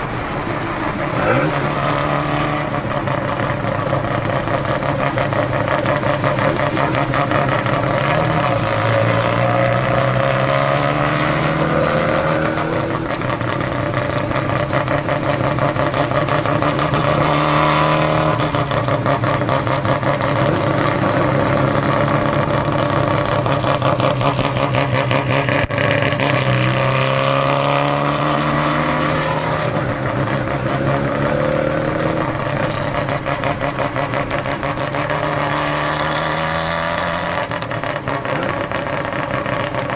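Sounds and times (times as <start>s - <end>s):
rotary engine running: 0.0s - 39.9s.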